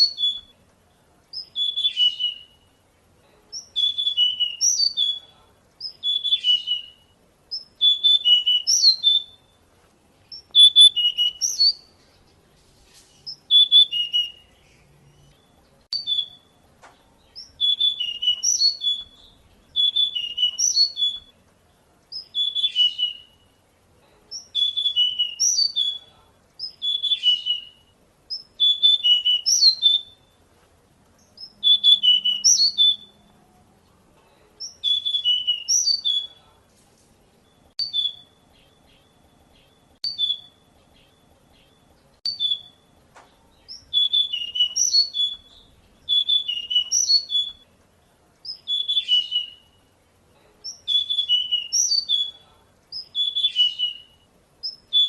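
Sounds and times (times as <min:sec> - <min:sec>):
bird whistled song phrases: 0:00.0 - 0:00.6, 0:01.3 - 0:02.8, 0:03.5 - 0:09.6, 0:10.3 - 0:12.0, 0:13.2 - 0:16.6, 0:17.2 - 0:21.4, 0:22.1 - 0:23.6, 0:24.3 - 0:30.4, 0:31.3 - 0:33.3, 0:34.6 - 0:36.6, 0:37.4 - 0:42.9, 0:43.5 - 0:47.7, 0:48.4 - 0:50.0, 0:50.6 - 0:55.0.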